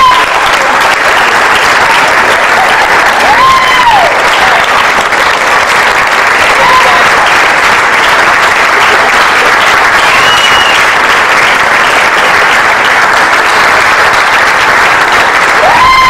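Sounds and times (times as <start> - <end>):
audience applauding: 0.0 - 16.0
high cheer: 0.0 - 16.0.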